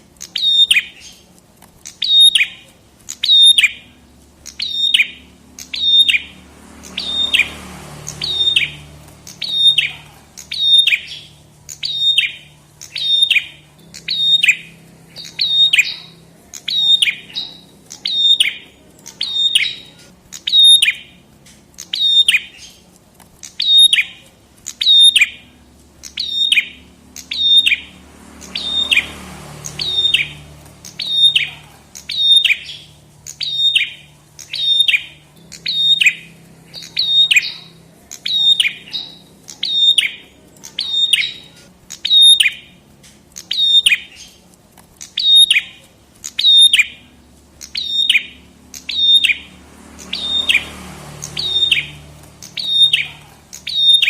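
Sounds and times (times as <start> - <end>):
songbird calling: 0.0 - 54.0.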